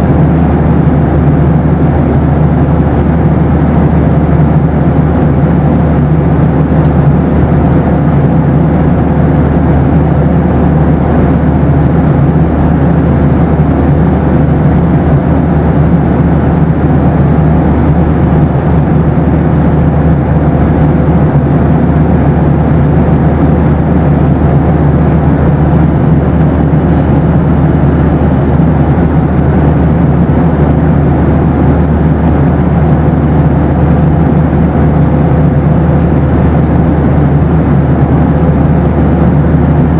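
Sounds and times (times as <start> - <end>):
airplane cabin engine drone: 0.0 - 39.9
faint steady hum: 0.0 - 39.9.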